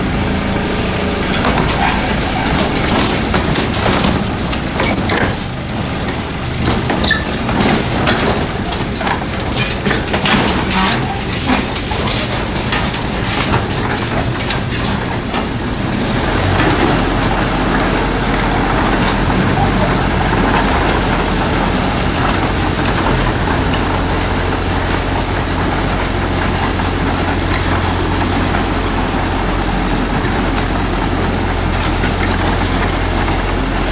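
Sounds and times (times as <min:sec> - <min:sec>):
diesel engine running: 0:00.0 - 0:33.9
machinery clattering and knocks: 0:00.0 - 0:33.9.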